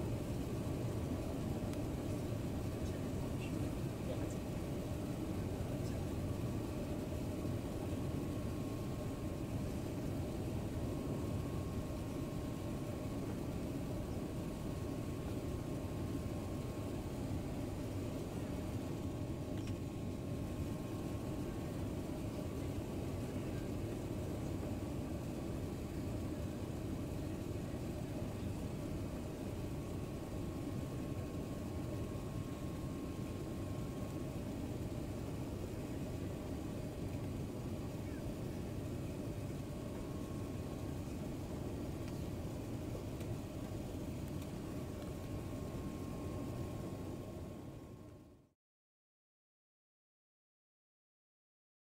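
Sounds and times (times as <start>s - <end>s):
airliner engine rumble: 0.0s - 48.4s
faint high hum: 0.0s - 48.6s.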